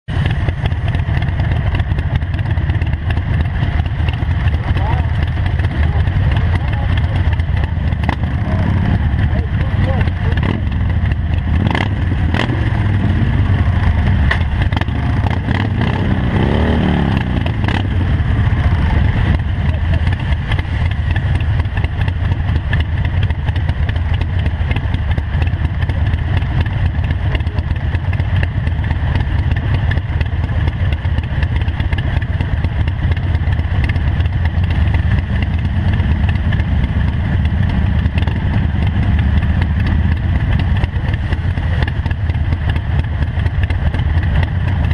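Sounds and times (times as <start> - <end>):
motorcycle engine rumbling: 0.0 - 44.9
motorcycle engine revving: 0.1 - 44.9.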